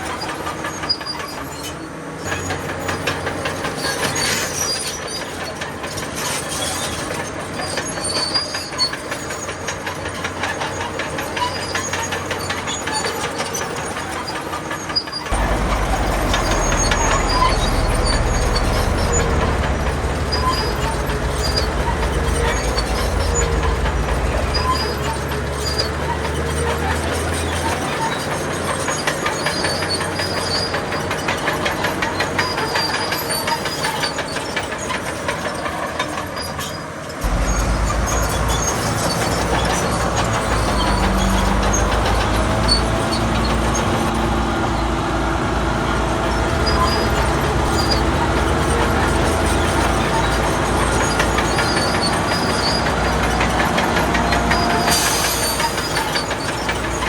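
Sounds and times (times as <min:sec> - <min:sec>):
bulldozer diesel engine: 0:00.0 - 0:57.0
steel tracks clattering: 0:00.0 - 0:57.0.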